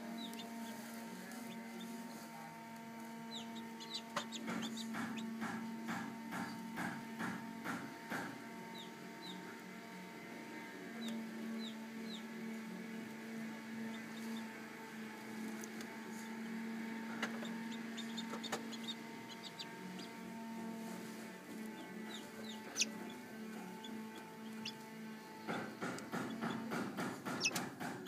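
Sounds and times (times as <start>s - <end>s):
chicks peeping: 0.0s - 28.0s
incubator fan hum: 0.0s - 28.0s.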